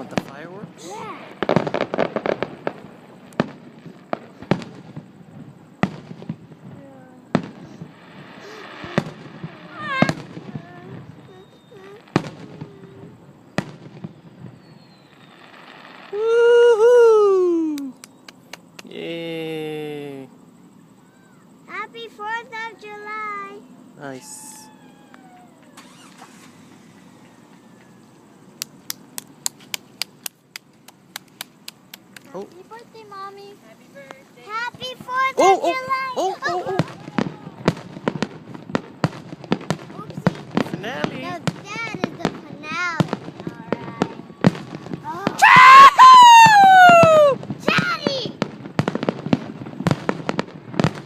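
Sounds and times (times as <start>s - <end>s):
firework shells bursting: 0.0s - 16.2s, 24.2s - 51.0s.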